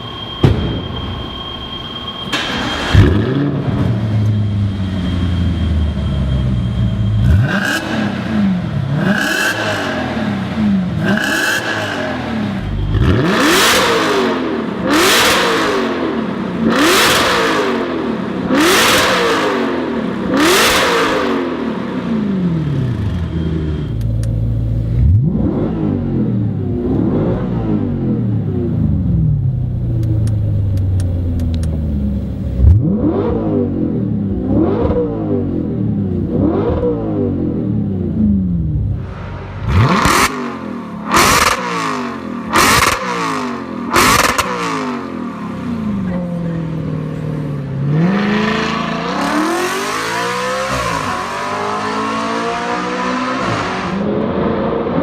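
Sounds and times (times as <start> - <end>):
car engine revving: 2.4 - 55.0.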